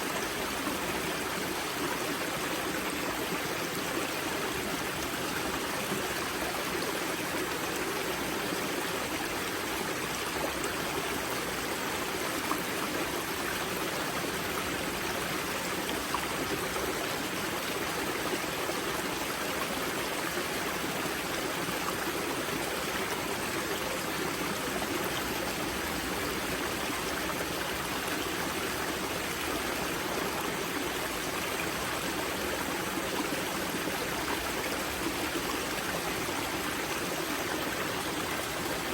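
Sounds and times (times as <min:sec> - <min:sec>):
river water rushing and gurgling: 0:00.0 - 0:38.9.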